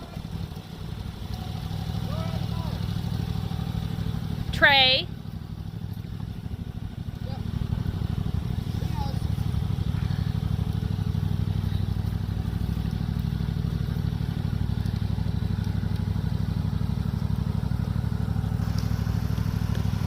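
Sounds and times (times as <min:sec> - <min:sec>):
mower engine running: 0:00.0 - 0:20.0.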